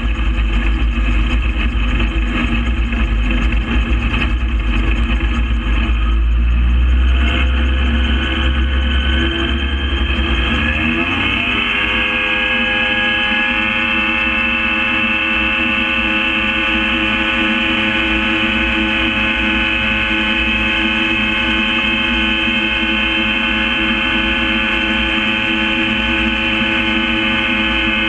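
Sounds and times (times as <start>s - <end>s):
gyrocopter engine and propeller drone: 0.0s - 28.0s.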